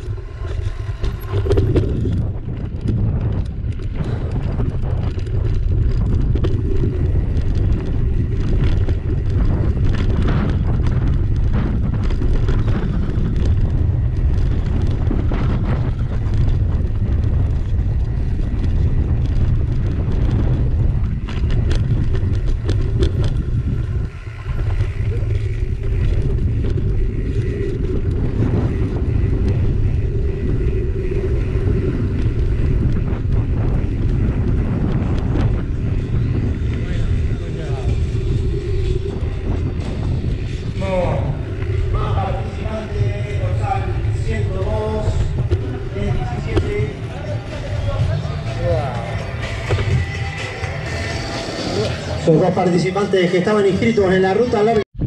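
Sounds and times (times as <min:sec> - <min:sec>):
bike rattling clicks: 0:00.0 - 0:51.1
bike tyre noise: 0:00.0 - 0:55.0
wind rumbling on microphone: 0:00.0 - 0:55.0.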